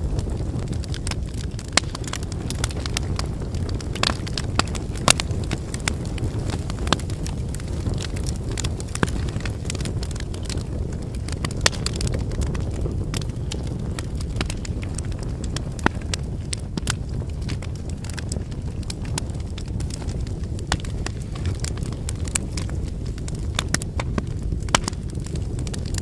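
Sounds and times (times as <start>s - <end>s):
logs crackling and popping: 0.0s - 26.0s
low rush of flame: 0.0s - 26.0s.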